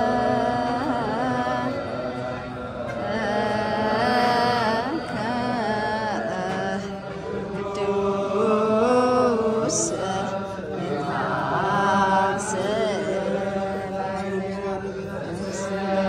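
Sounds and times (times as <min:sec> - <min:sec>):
voices chanting long notes: 0:00.0 - 0:16.0.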